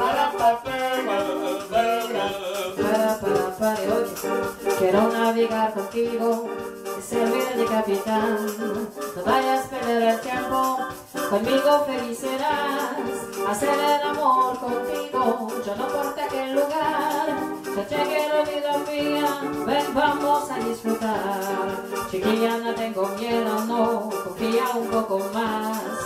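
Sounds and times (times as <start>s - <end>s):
electronic keyboard bossa backing: 0.0s - 26.0s
shaker rhythm: 0.0s - 26.0s
woman singing into microphone: 0.0s - 26.0s.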